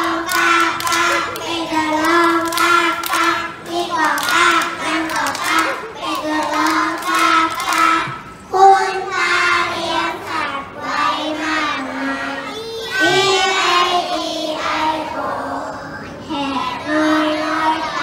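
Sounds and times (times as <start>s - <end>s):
children singing in unison: 0.0s - 18.0s.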